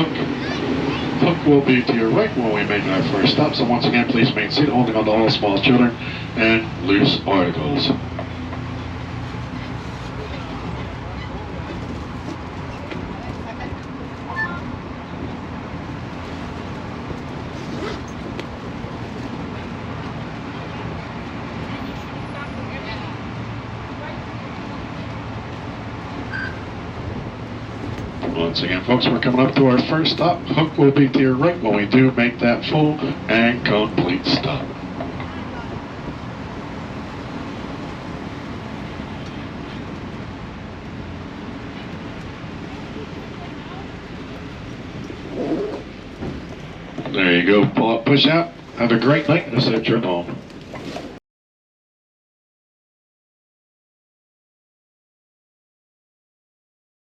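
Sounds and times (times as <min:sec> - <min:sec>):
tram motor and rolling rumble: 0:00.0 - 0:51.2.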